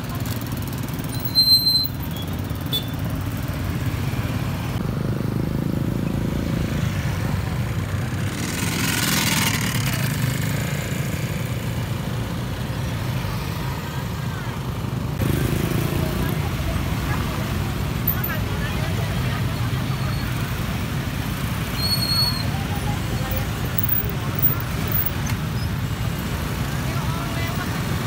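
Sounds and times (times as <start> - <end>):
scooters and motorcycles passing: 0.0 - 28.0.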